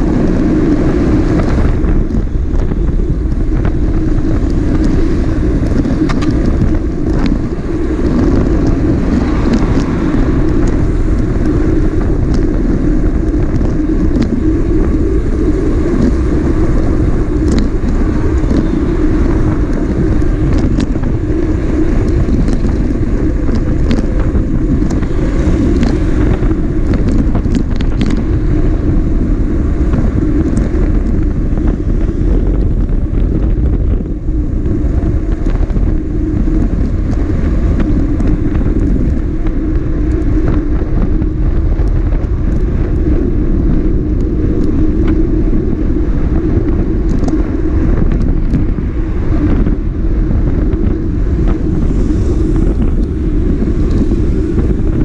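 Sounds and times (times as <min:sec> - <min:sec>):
motorcycle engine cruising: 0:00.0 - 0:55.0
wind rumble on microphone: 0:00.0 - 0:55.0.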